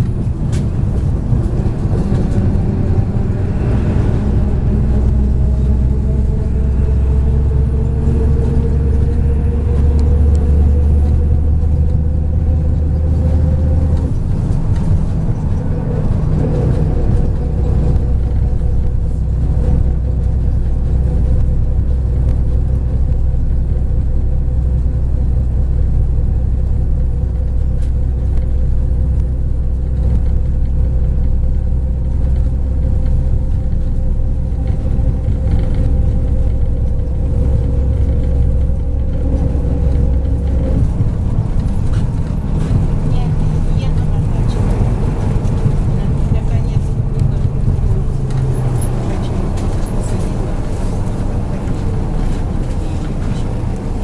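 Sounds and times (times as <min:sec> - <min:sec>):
bus diesel engine rumble: 0:00.0 - 0:54.0
drivetrain whine: 0:00.0 - 0:54.0.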